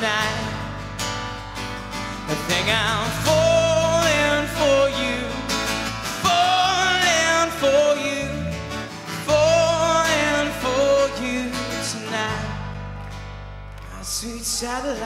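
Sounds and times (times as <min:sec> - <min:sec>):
person singing: 0:00.0 - 0:00.8, 0:02.1 - 0:12.8, 0:13.9 - 0:15.0
guitar-led band: 0:00.0 - 0:15.0.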